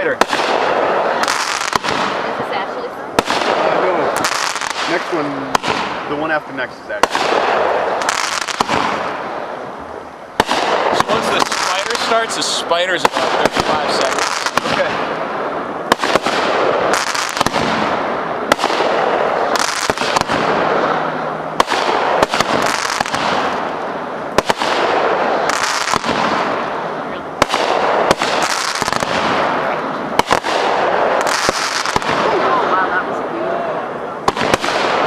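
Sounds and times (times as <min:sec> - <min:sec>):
firework bangs: 0:00.0 - 0:35.0
fireworks hissing and crackling: 0:00.0 - 0:35.0.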